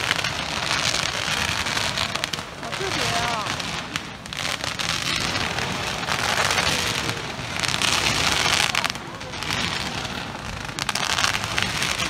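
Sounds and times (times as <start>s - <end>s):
fountain fireworks hissing and crackling: 0.0s - 12.0s.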